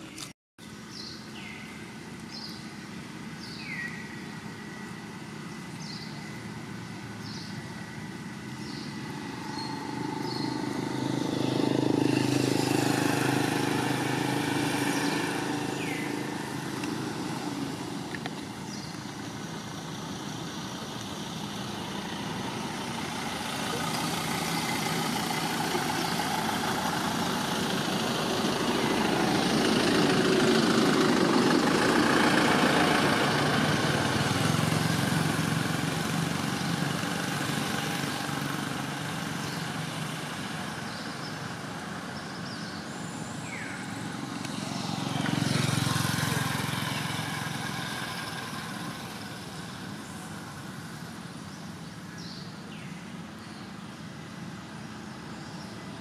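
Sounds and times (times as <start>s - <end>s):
vehicles passing on road: 0.0s - 56.0s.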